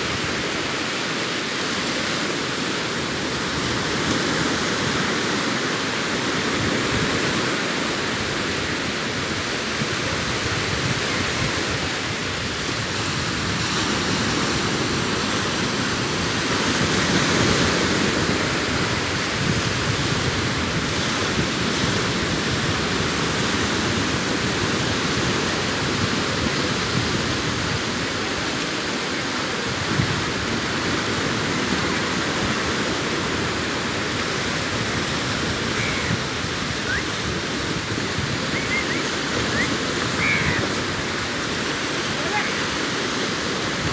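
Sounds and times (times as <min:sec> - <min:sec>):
sea waves breaking on shore: 0:00.0 - 0:43.9.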